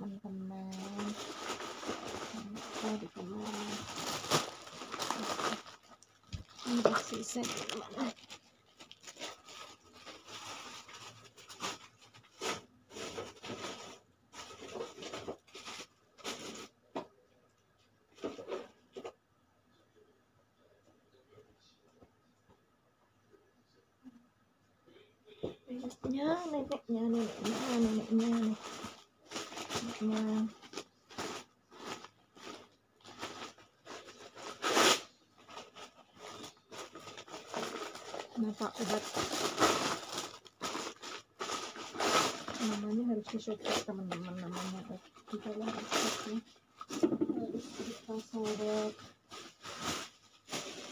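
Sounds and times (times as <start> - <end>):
rustling and scraping of handling: 0.0 - 19.8, 25.3 - 50.9
plastic and paper packets crinkling: 0.3 - 17.0, 25.7 - 50.9.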